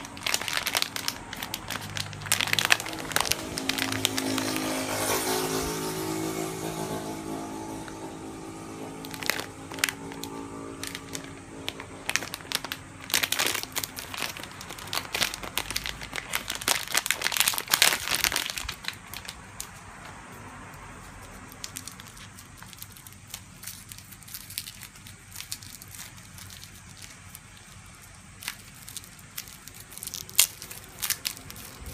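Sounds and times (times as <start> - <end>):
plastic packaging crinkling: 0.0 - 20.2, 21.4 - 31.9.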